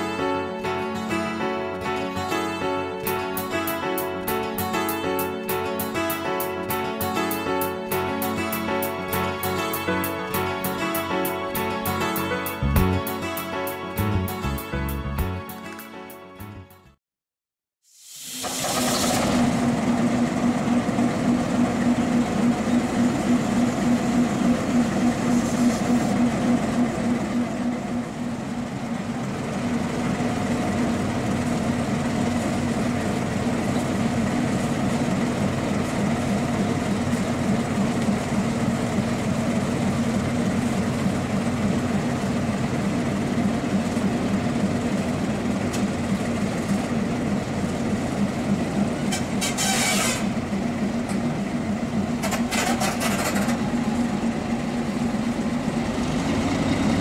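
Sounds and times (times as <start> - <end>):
diesel locomotive engine throbbing: 0.0 - 15.8, 18.4 - 57.0.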